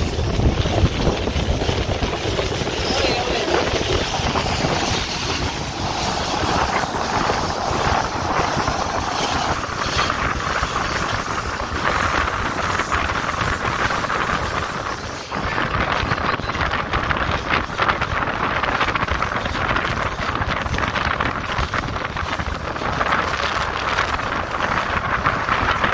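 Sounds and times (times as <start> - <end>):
moving train rumble: 0.0 - 25.9
wind buffeting microphone: 0.0 - 25.9.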